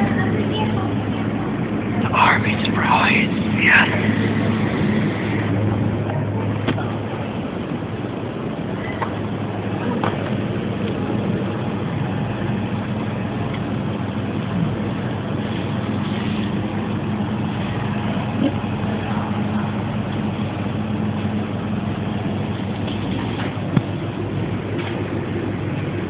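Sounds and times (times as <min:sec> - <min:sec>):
low machine hum: 0:00.0 - 0:26.0
noisy hiss: 0:00.0 - 0:26.0.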